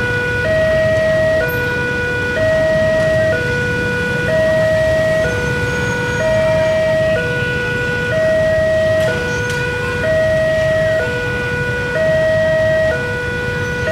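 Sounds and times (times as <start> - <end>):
level crossing two-tone alarm: 0.0 - 13.9.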